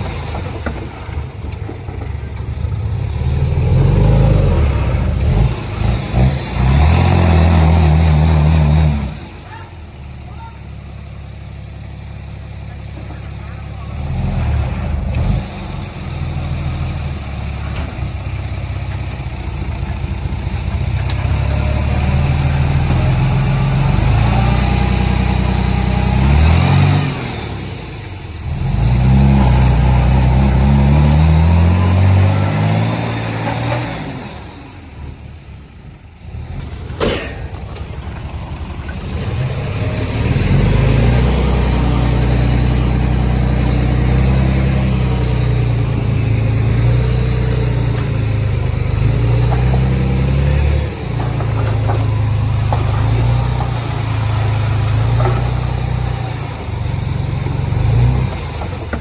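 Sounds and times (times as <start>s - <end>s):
heavy diesel engine revving: 0.0s - 59.0s.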